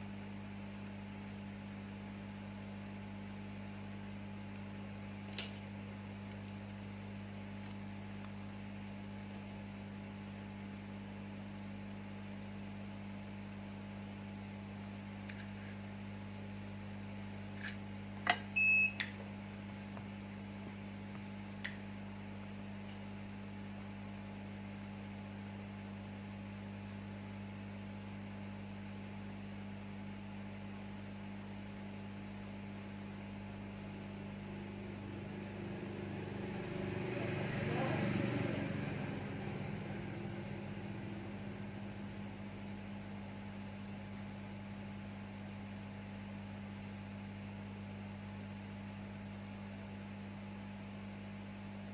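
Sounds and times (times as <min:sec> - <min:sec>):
electrical mains hum: 0:00.0 - 0:51.9.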